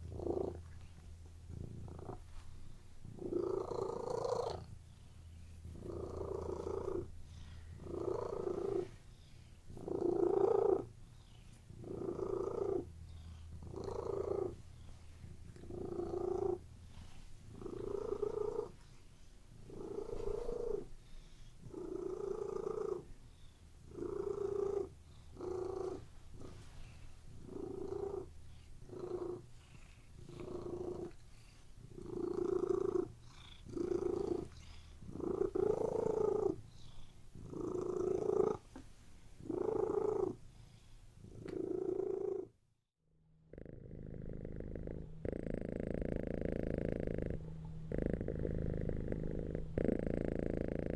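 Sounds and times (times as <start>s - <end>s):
cat purring: 0.0s - 42.6s, 43.5s - 50.9s.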